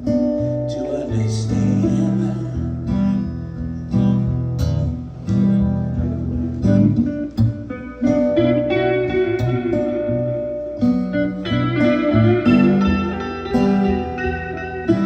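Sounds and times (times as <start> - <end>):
guitar strumming chords: 0.0 - 15.0
bass notes: 1.3 - 15.0.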